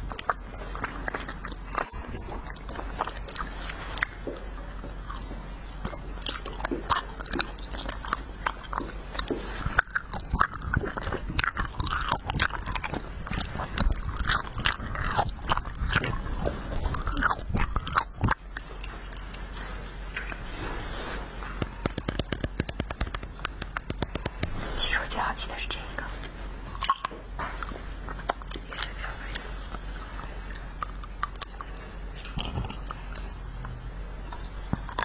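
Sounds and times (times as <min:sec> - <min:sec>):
chewing wax candy crunches: 0:00.0 - 0:20.4, 0:21.4 - 0:24.6, 0:26.7 - 0:35.0.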